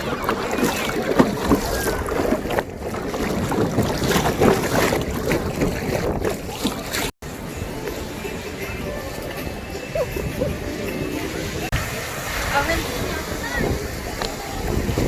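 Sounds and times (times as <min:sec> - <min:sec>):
water splashing around kayak: 0:00.0 - 0:15.0
wind buffeting microphone: 0:00.0 - 0:15.0.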